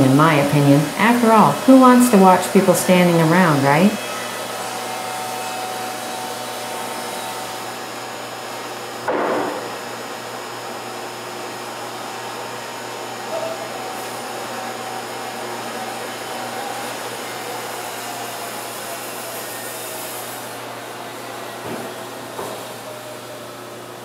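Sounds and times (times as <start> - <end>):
band sawmill running: 0.0 - 24.0.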